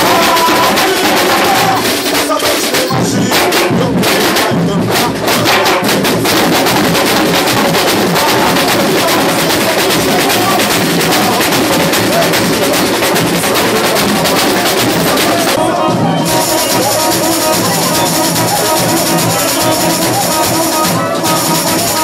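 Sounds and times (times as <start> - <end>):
samba drums playing: 0.0 - 22.0.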